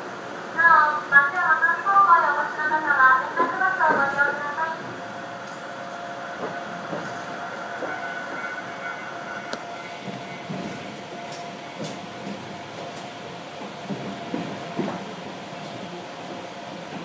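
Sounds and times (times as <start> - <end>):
electric train running hum: 0.0 - 17.0.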